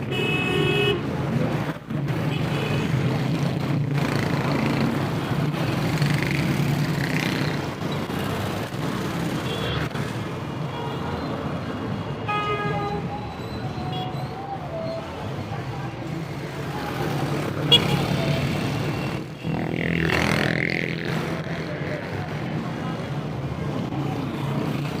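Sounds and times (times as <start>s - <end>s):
vehicle engines running: 1.0s - 10.5s, 12.9s - 25.0s.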